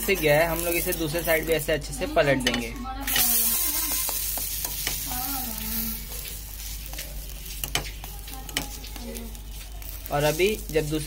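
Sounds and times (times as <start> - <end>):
pancake sizzling in oil: 0.0 - 11.0.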